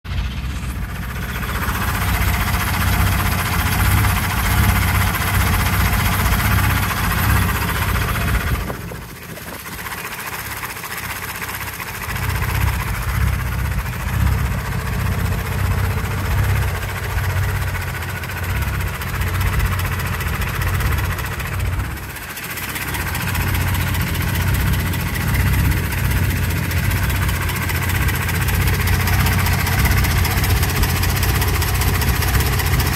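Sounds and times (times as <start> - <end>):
engine idling with rapid knock: 0.0 - 32.9.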